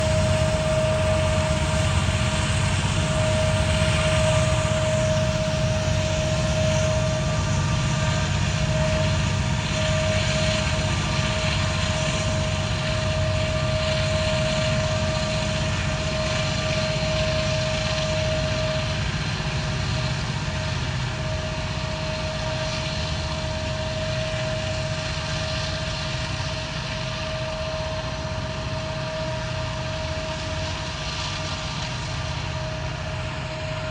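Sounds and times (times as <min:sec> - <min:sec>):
diesel locomotive engine rumble: 0:00.0 - 0:33.9
turbocharger whine: 0:00.0 - 0:33.9.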